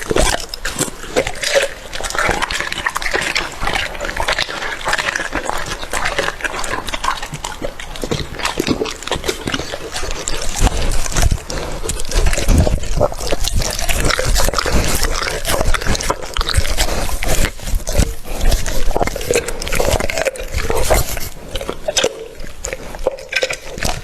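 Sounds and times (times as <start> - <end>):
dog chewing wet: 0.0 - 24.0.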